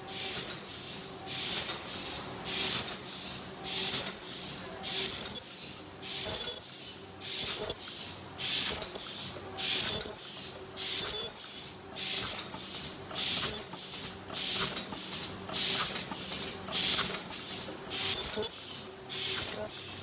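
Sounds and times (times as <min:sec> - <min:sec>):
faint steady machine hum: 0:00.0 - 0:20.0
machine hissing bursts: 0:00.0 - 0:20.0.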